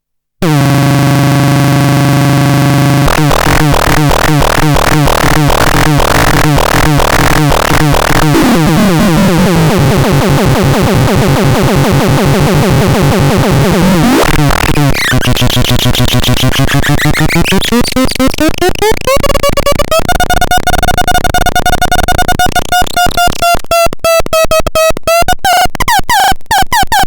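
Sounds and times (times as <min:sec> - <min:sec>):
synthesizer falling zaps: 0:00.4 - 0:26.8
synthesizer buzzing tone: 0:00.4 - 0:27.0.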